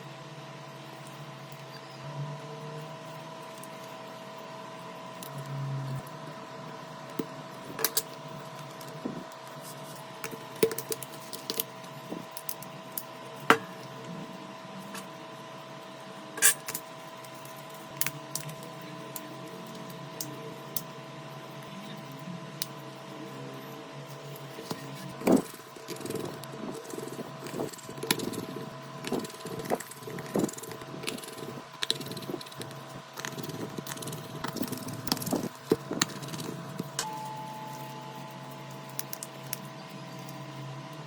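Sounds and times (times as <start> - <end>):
faint high hum: 0.0 - 41.0.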